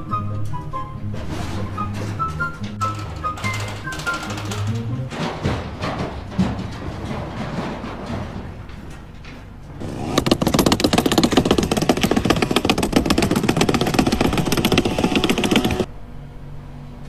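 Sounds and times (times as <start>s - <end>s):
machine rattling: 1.3s - 15.9s.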